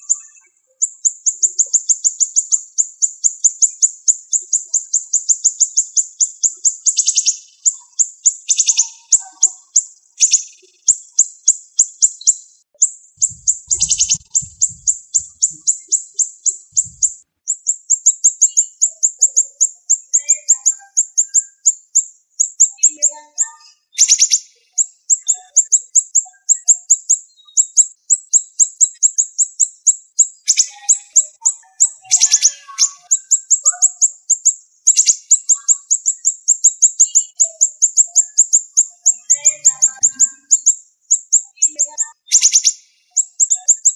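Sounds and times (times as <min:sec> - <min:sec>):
songbird singing rapid high notes: 0:00.0 - 0:43.9.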